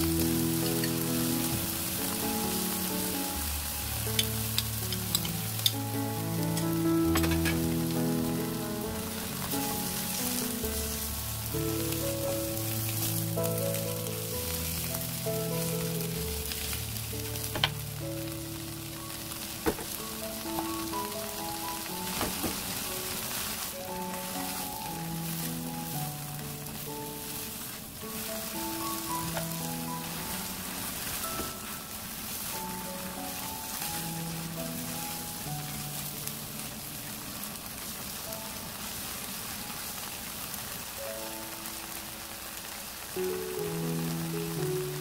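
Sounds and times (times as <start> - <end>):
background music: 0.0 - 38.8, 40.9 - 45.0
food sizzling in frying pan: 0.0 - 45.0.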